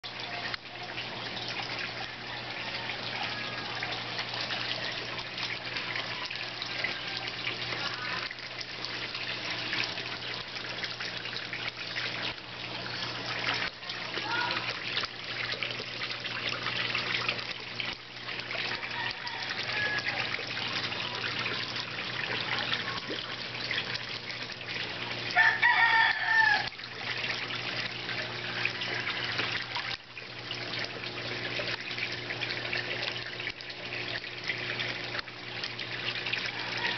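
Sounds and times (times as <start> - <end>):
pond bubbling: 0.0 - 36.9
water trickling and splashing: 0.0 - 36.9.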